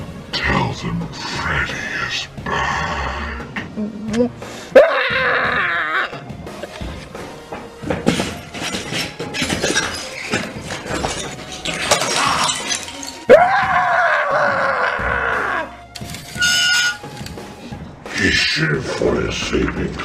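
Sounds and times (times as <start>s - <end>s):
music with sharp hits and crashes: 3.5s - 20.0s.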